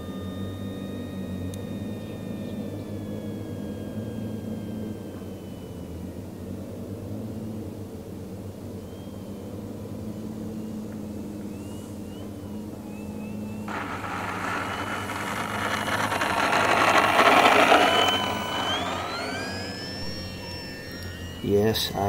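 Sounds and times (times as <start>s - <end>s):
high whine rising in pitch: 0.0s - 22.0s
model plane propeller drone: 0.0s - 22.0s.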